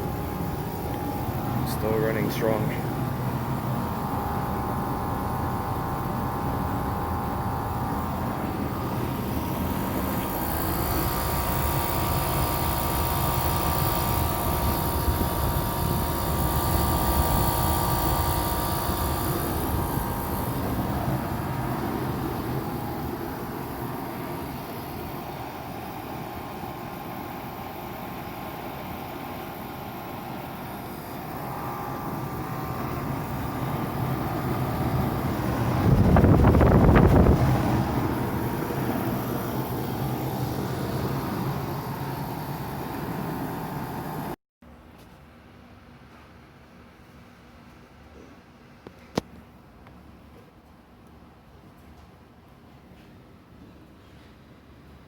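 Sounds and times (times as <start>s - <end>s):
air conditioner fan whoosh: 0.0s - 44.4s
air conditioner hum: 0.0s - 55.0s.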